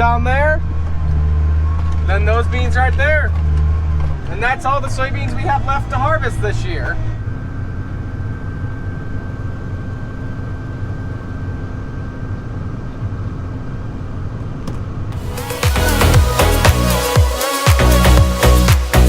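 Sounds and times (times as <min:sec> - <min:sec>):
farm machine engine running: 0:00.0 - 0:19.0
thin steady whine: 0:00.0 - 0:19.0.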